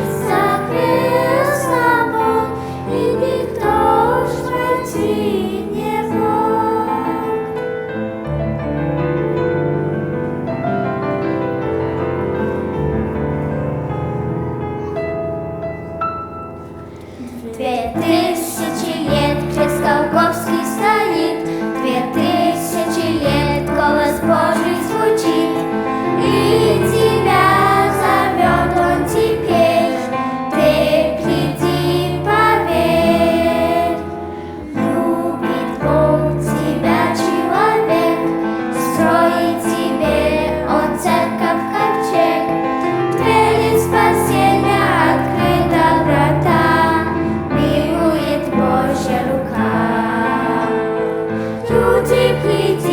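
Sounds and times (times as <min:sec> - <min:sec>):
children's choir singing: 0:00.0 - 0:15.0, 0:16.8 - 0:52.9
instrumental accompaniment: 0:00.0 - 0:52.9.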